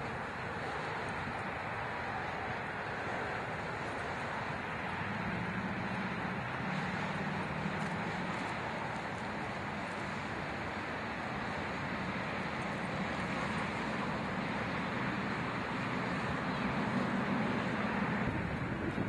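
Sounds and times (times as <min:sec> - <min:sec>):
road traffic: 0:00.0 - 0:19.0
vehicle engine hum: 0:00.0 - 0:19.0.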